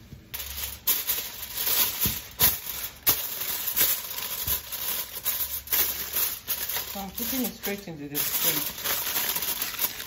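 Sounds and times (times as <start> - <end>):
aluminium foil crinkling: 0.3 - 10.0.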